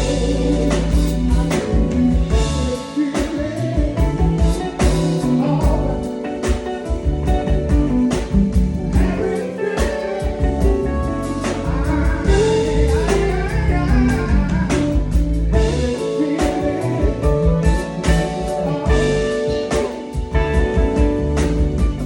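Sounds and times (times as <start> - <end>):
blues band playing: 0.0 - 22.0
electric guitar: 0.0 - 22.0
person singing: 0.0 - 22.0.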